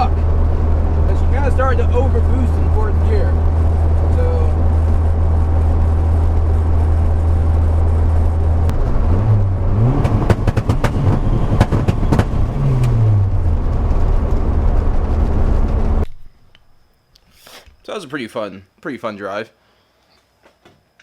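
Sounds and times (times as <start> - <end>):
car engine drone: 0.0 - 17.1
road noise: 0.0 - 17.6.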